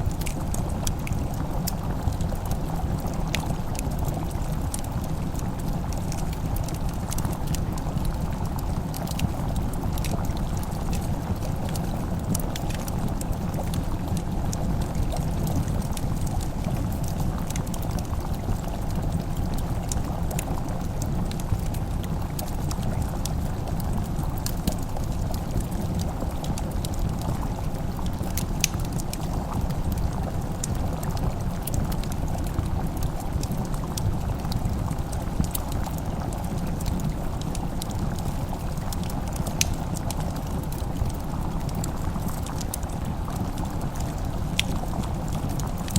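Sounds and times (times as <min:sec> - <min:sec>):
simmering pot bubbling: 0:00.0 - 0:45.9
wood fire crackling: 0:00.0 - 0:45.9.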